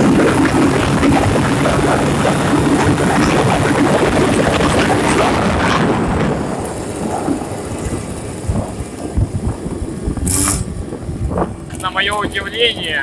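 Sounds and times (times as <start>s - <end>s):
two-stroke scooter engine: 0.0s - 13.0s
wind rumble on microphone: 0.0s - 13.0s.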